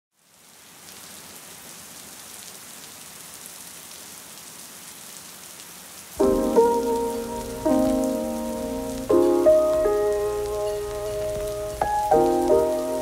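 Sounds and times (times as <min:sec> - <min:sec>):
rain on pavement and rooftops: 0:00.1 - 0:13.0.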